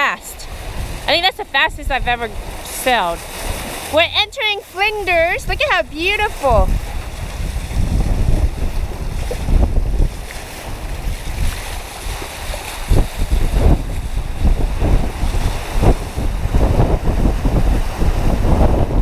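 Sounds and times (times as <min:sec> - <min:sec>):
choppy water slapping hulls: 0:00.0 - 0:19.0
wind buffeting microphone: 0:00.0 - 0:19.0.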